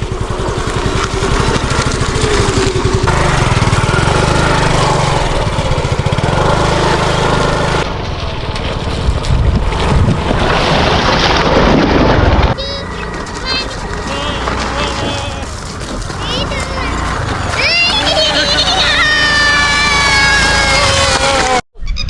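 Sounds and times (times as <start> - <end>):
engine running with pulsing beat: 0.0 - 21.6.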